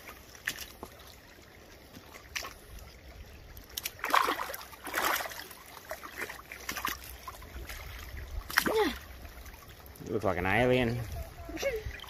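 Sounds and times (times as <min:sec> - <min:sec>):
water sounds: 0:00.0 - 0:12.0.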